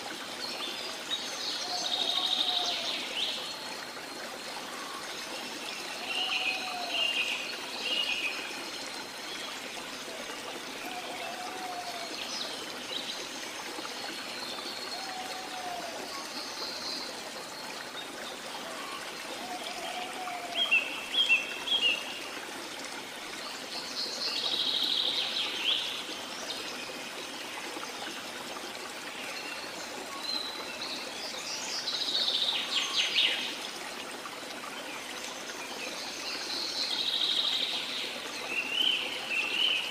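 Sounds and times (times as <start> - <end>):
small waterfall flowing: 0.0 - 39.9.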